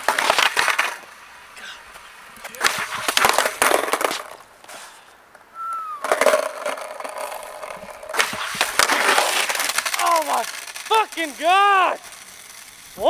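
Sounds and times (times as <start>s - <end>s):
skateboard slapping down: 0.0s - 1.2s, 1.9s - 13.0s
skateboard rolling on asphalt: 0.0s - 13.0s.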